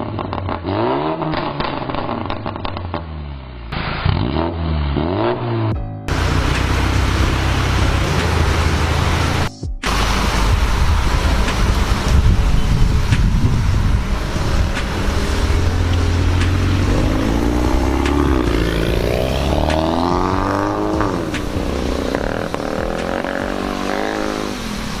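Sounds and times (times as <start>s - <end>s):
car engine rumbling and revving: 0.0s - 25.0s.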